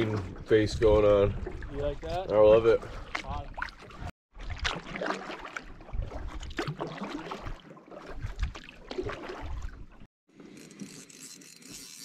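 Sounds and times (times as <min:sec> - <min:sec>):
paddle splashing water: 0:00.0 - 0:10.6
water running along hull: 0:00.0 - 0:12.0.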